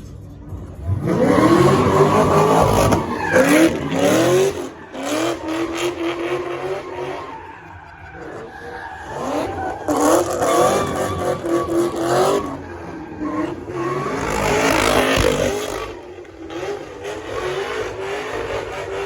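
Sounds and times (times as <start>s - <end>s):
tire noise: 0.0s - 19.0s
car engine revving hard: 0.8s - 7.4s, 9.0s - 19.0s.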